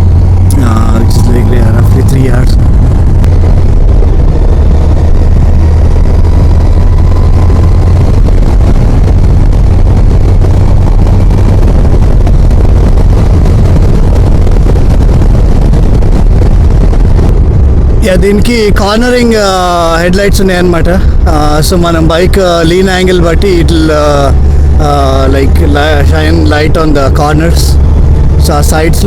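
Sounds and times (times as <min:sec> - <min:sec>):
motorcycle engine hum: 0:00.0 - 0:29.0
wind rushing over microphone: 0:00.0 - 0:29.0.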